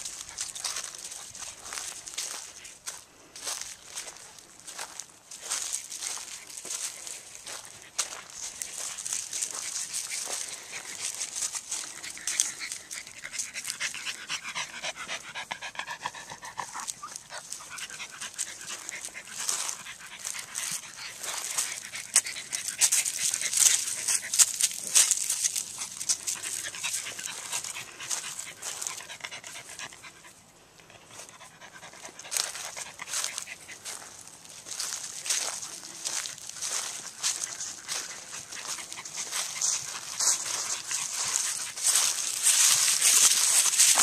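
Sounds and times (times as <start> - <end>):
leaves crackling under paws: 0.0 - 14.2, 16.2 - 29.0, 32.2 - 44.0
dog panting: 0.0 - 44.0.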